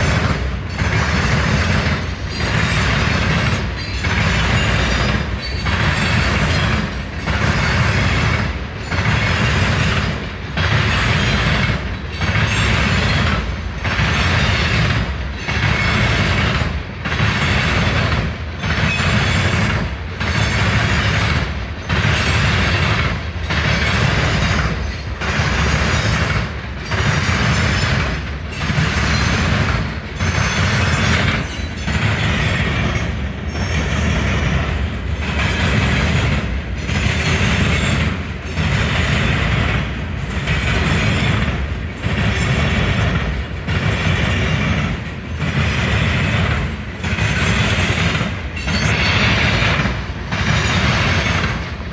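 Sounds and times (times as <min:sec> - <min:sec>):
train passing on tracks: 0:00.0 - 0:51.9.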